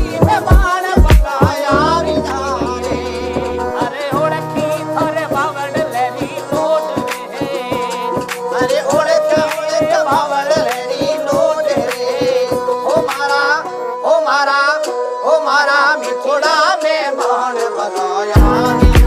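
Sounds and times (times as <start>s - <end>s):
person singing ornamented lines: 0.0s - 19.0s.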